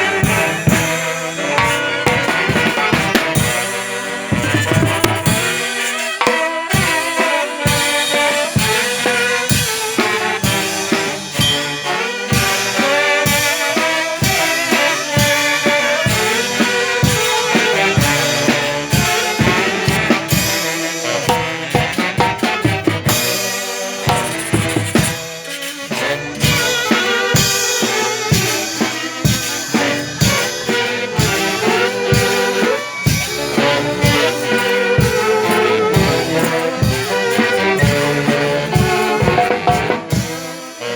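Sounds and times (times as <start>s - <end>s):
drum kit beat: 0.0s - 40.9s
horns playing a melody: 0.0s - 40.9s.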